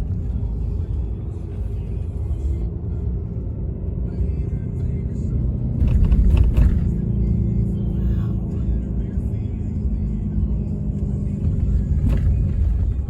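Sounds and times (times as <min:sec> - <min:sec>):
background music: 0:00.0 - 0:13.0
truck road and engine rumble: 0:00.0 - 0:13.0.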